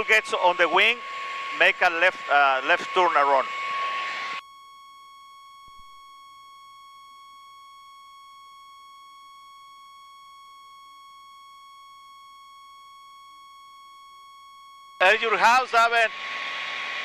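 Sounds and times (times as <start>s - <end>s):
steady electronic tone: 0.0s - 17.0s.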